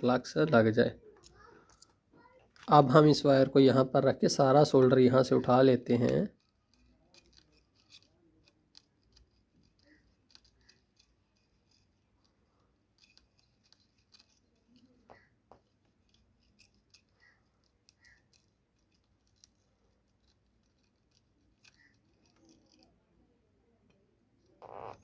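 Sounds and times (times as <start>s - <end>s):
faint ticks and scratchy clicks: 4.0s - 25.0s.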